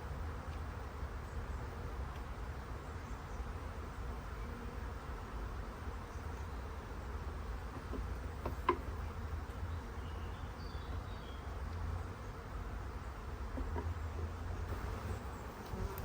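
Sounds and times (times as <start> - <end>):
honeybees buzzing: 0.8 - 16.0.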